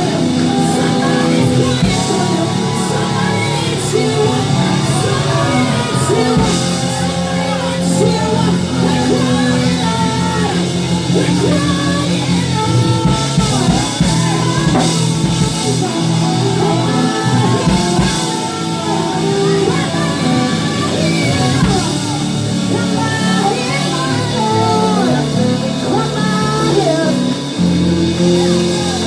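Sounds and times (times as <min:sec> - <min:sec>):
bass guitar: 0:00.0 - 0:29.0
drums: 0:00.0 - 0:29.0
electric guitar: 0:00.0 - 0:29.0
gospel band playing: 0:00.0 - 0:29.0
people singing: 0:00.0 - 0:29.0.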